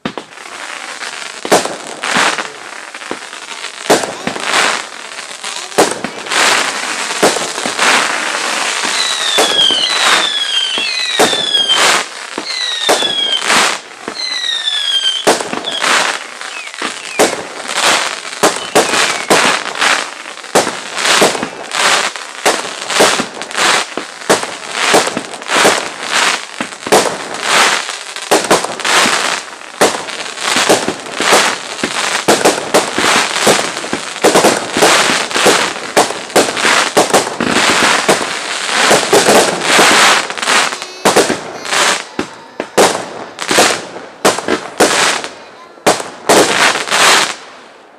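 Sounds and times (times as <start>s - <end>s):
fireworks falling whistles: 0.0s - 47.7s
fireworks bangs: 0.0s - 47.9s.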